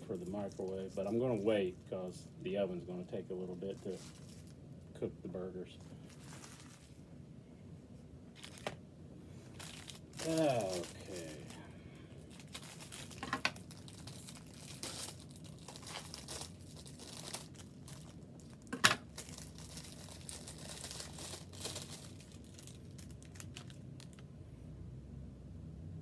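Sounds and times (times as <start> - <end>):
paper and packaging crinkling: 0.0 - 4.6, 5.4 - 7.0, 8.3 - 8.8, 9.4 - 24.2.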